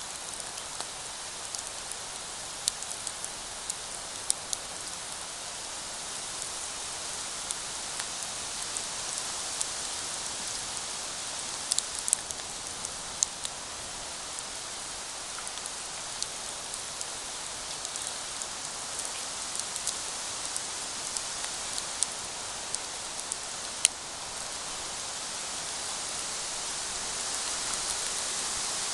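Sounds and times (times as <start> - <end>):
campfire hissing: 0.0 - 28.9
fire crackles and pops: 0.0 - 28.9.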